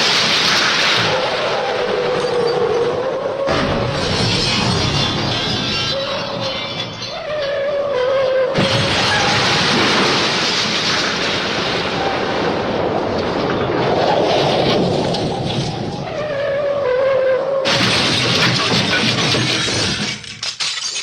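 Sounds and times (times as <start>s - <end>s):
dense crashing rumble: 0.0s - 7.6s, 8.6s - 16.8s, 17.7s - 20.4s.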